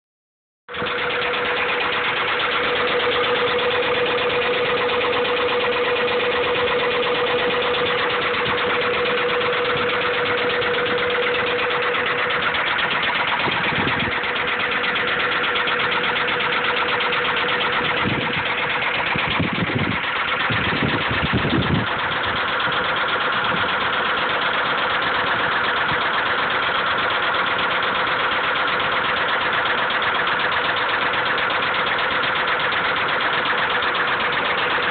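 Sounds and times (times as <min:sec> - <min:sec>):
car engine idling: 0:00.7 - 0:34.9
rhythmic engine knock: 0:00.7 - 0:34.9.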